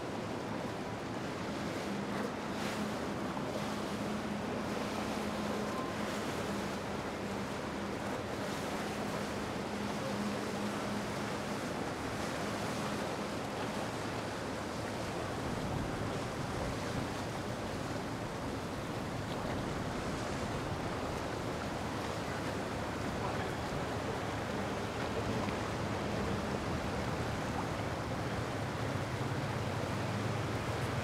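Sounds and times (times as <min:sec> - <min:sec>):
boat engine humming: 0:00.0 - 0:31.0
moving water: 0:00.0 - 0:31.0.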